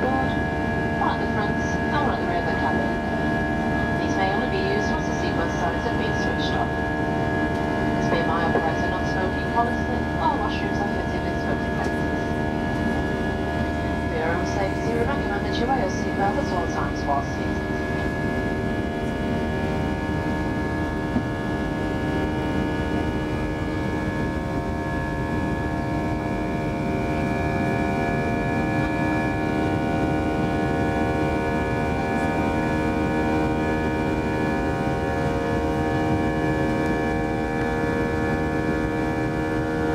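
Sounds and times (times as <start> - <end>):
airplane cabin rumble: 0.0 - 39.9
jet engines whining: 0.0 - 39.9.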